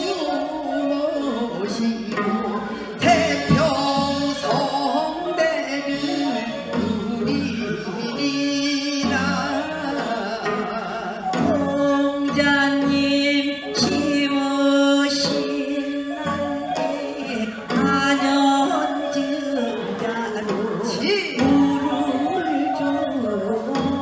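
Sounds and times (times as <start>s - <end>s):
folk song singing with vibrato: 0.0s - 24.0s.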